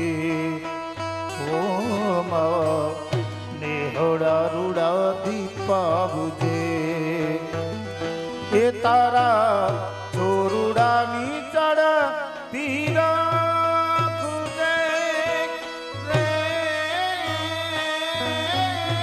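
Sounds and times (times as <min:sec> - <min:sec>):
harmonium chords: 0:00.0 - 0:19.0
person singing ornamented melody: 0:00.0 - 0:19.0.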